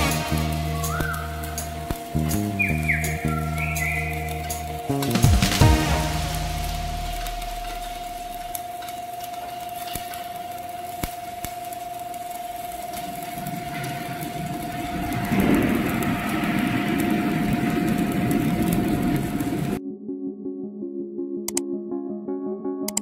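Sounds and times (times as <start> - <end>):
steady high whine: 0.0 - 19.8
welding arc crackling and buzzing: 0.0 - 19.8.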